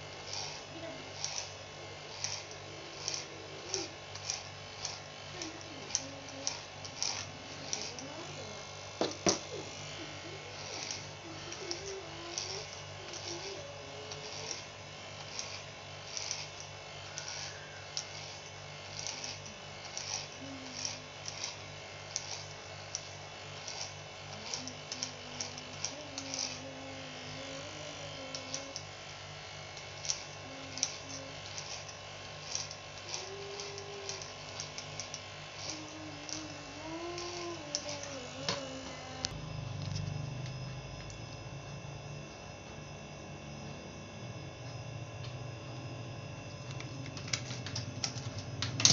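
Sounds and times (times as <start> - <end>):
clippers cutting through hair: 0.0 - 41.2, 46.4 - 48.9
electric hair clippers humming: 0.0 - 48.9.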